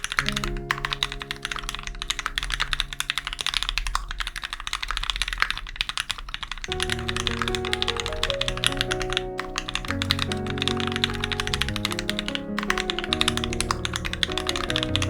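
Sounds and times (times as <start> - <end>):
fast mechanical keyboard typing: 0.0 - 15.0
soft background music: 0.1 - 4.0, 6.7 - 15.0.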